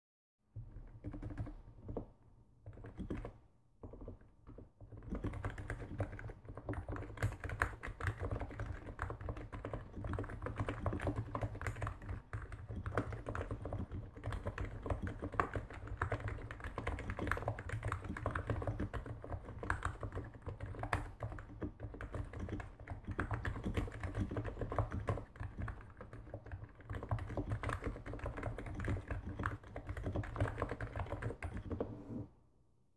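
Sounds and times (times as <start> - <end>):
keyboard typing: 0.6 - 32.3.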